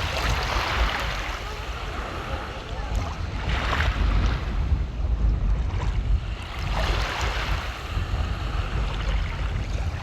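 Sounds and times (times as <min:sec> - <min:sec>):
seawater lapping: 0:00.0 - 0:10.0
wind rumble on microphone: 0:00.0 - 0:10.0.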